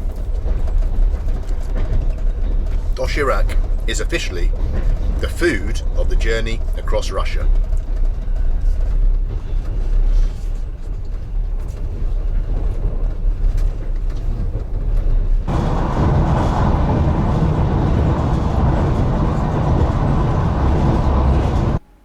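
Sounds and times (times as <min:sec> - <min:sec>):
faint clicks of train: 0:00.0 - 0:21.8
train rumbling: 0:00.0 - 0:22.0.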